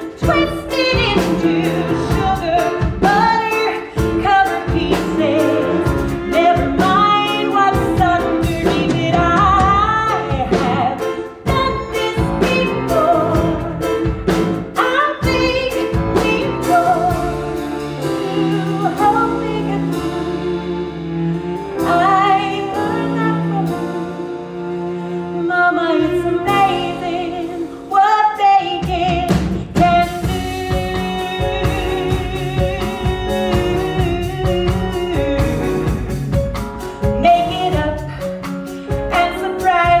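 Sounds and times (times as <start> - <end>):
woman singing: 0.0 - 20.7, 21.8 - 24.2, 25.4 - 36.0, 37.0 - 40.0
live band playing: 0.0 - 40.0.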